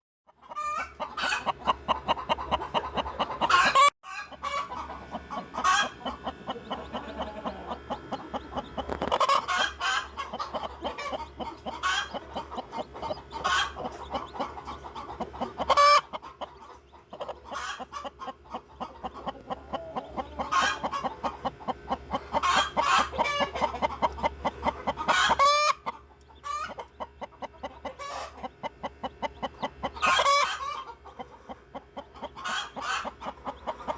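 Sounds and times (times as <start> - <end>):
chicks peeping: 0.3 - 33.9
hen clucking: 0.3 - 33.9.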